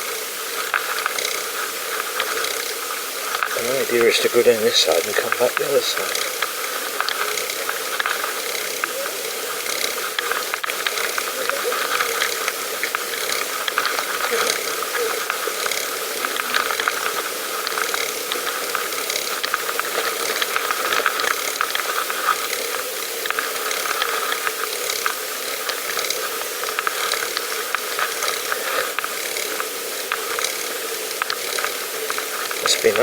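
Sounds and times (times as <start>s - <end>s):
bicycle freewheel ticking: 0.0s - 33.0s.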